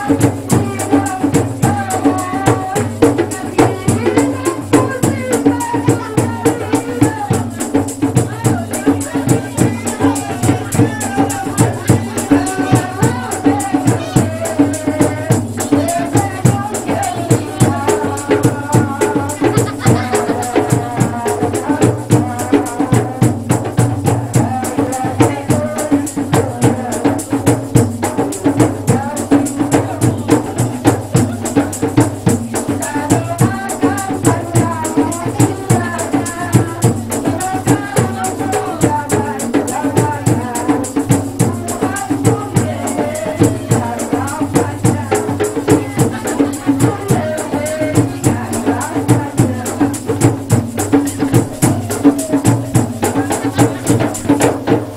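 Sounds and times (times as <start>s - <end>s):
woman singing through loudspeaker: 0.0s - 23.4s, 24.4s - 27.5s, 28.1s - 31.6s, 32.6s - 54.6s
shaken and struck percussion: 0.0s - 54.9s.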